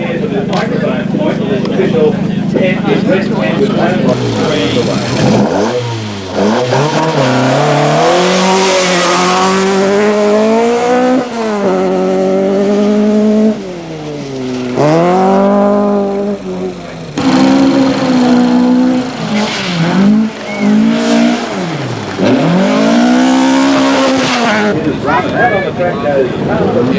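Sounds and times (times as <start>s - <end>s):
rally car engine revving: 0.0s - 26.9s.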